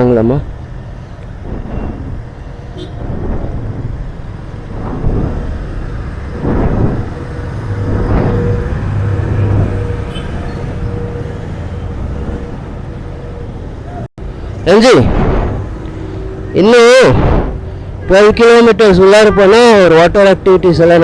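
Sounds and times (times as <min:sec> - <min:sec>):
engine rumbling: 0:00.0 - 0:18.1.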